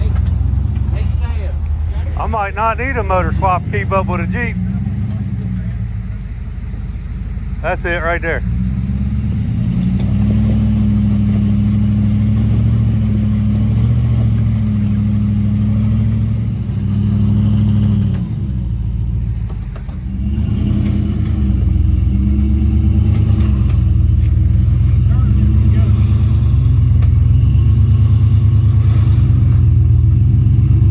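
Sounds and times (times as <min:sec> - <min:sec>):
vehicle engine revving under load: 0:00.0 - 0:30.9.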